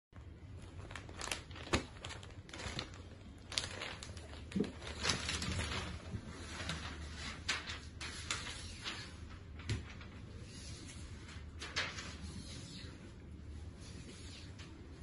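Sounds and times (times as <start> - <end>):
silk fabric crinkling and rustling: 0.2 - 15.0.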